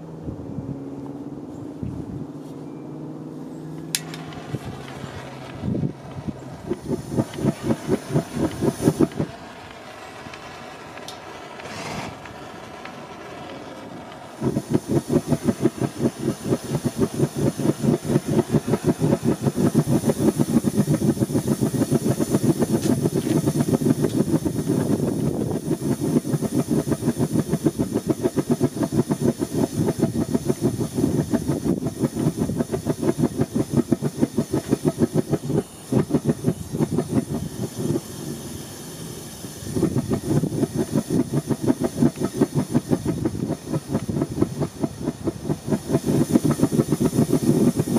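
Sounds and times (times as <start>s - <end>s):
forge burner huffing pulse: 3.9s - 47.9s
gas hiss: 4.0s - 47.9s.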